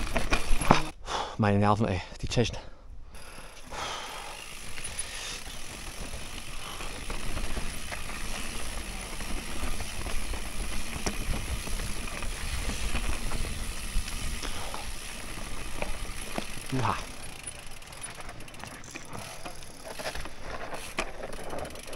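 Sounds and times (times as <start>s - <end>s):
bike frame rattling: 0.0s - 1.0s, 3.2s - 21.9s
bike tyres rolling on dirt: 0.0s - 1.2s, 3.2s - 21.9s.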